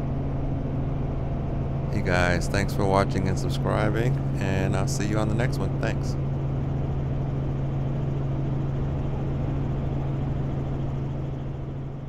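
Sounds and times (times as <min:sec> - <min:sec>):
helicopter cabin drone: 0:00.0 - 0:12.0.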